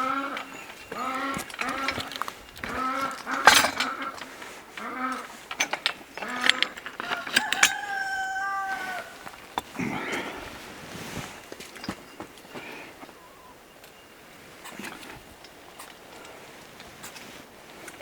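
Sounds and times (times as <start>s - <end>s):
farm animals calling: 0.0s - 11.5s, 12.4s - 18.0s.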